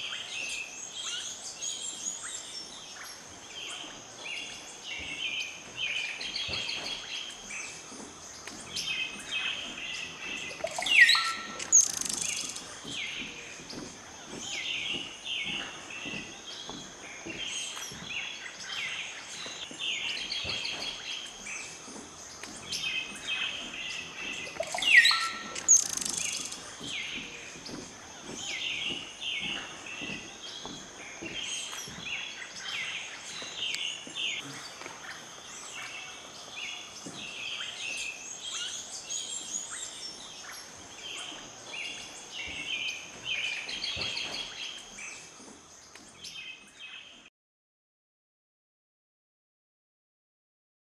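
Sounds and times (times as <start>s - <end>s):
wild birds calling and chirping: 0.0s - 47.3s.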